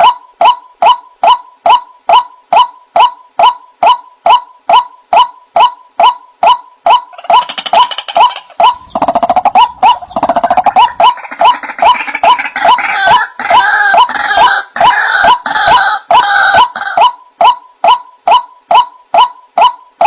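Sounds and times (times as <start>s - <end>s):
fast chattering bird call: 0.8s - 19.8s
waterhen calling: 0.8s - 19.8s.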